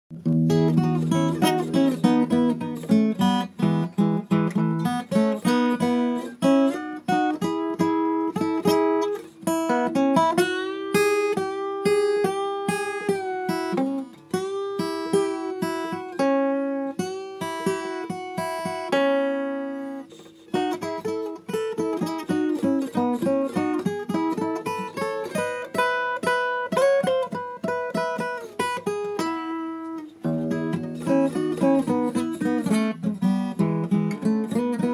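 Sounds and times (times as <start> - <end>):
acoustic guitar melody: 0.1 - 34.9.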